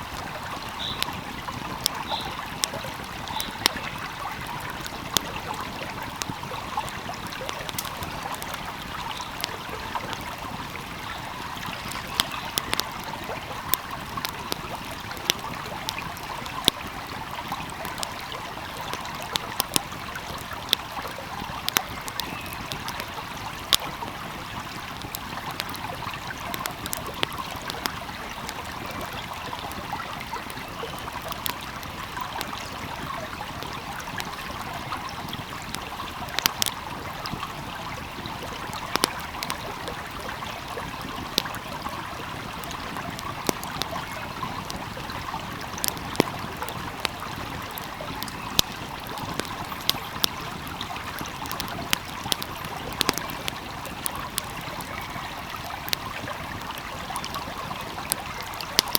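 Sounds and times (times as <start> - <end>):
stream rushing and trickling: 0.0 - 58.9
wood fire crackling: 0.0 - 58.9.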